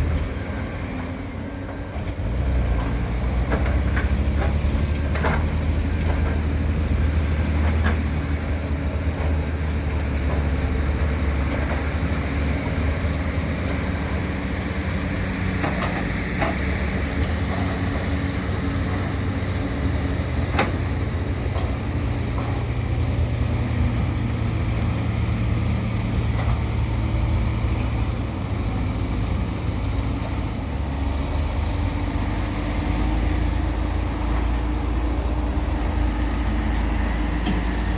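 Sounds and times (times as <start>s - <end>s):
excavator engine drone: 0.0s - 37.9s.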